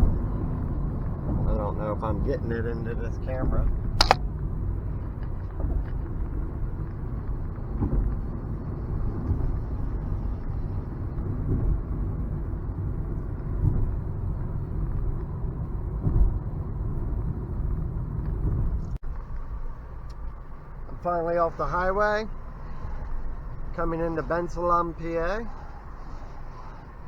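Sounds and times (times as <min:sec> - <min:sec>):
tyre and road noise in car: 0:00.0 - 0:27.0.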